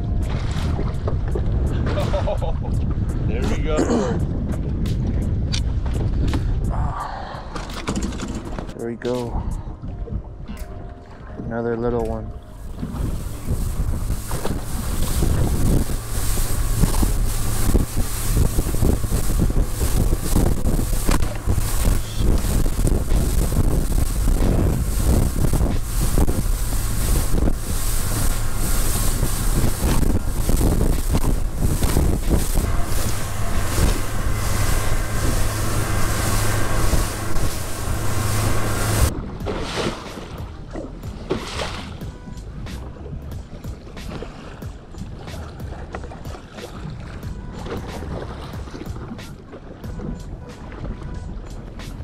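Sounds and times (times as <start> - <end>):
waves slapping boat hull: 0.0 - 52.0
wind buffeting microphone: 0.0 - 52.0.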